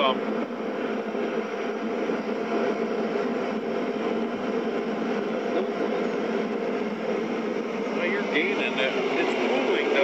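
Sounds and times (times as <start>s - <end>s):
portable heater rushing: 0.0s - 10.0s.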